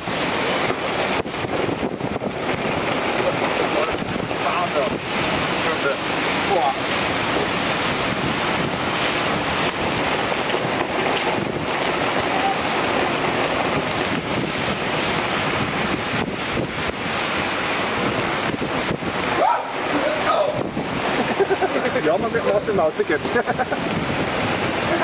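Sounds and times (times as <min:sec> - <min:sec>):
heavy rain falling: 0:00.0 - 0:25.0
wind buffeting microphone: 0:00.0 - 0:25.0.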